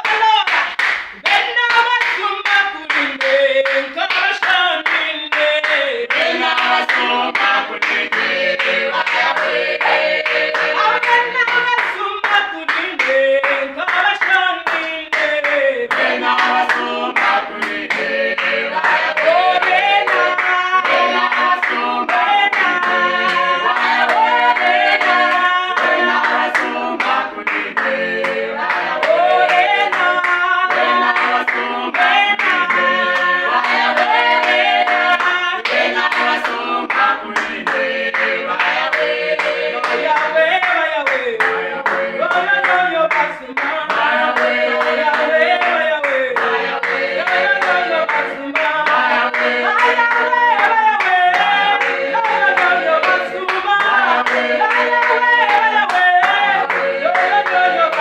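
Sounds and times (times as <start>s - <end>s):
group singing worship song: 0.0s - 58.0s
hand clapping on the beat: 0.0s - 58.0s.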